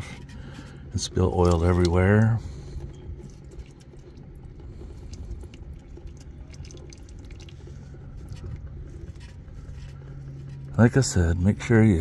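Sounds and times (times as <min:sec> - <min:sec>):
low hum: 0:00.0 - 0:12.0
oil dripping into pan: 0:01.0 - 0:10.6.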